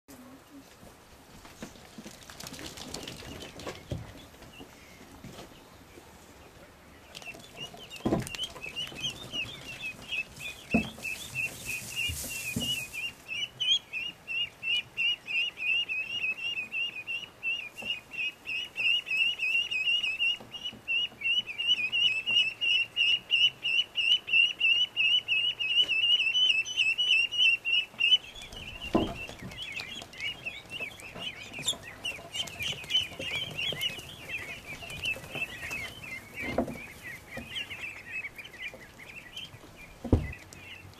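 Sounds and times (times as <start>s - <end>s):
ducklings peeping: 1.6s - 40.9s.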